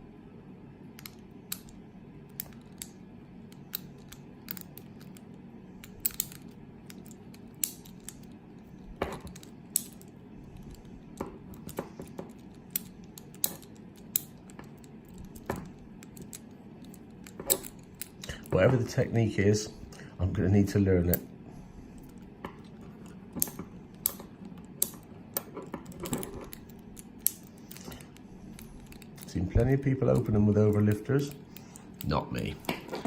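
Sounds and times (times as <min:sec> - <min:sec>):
lock picks clicking in padlock: 0:01.0 - 0:10.9, 0:11.5 - 0:18.4, 0:22.0 - 0:32.2.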